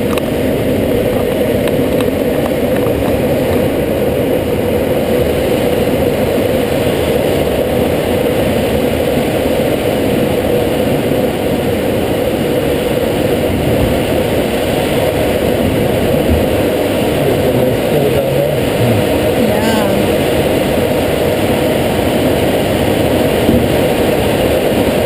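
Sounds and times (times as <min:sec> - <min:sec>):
air rushing around canopy: 0:00.0 - 0:25.0.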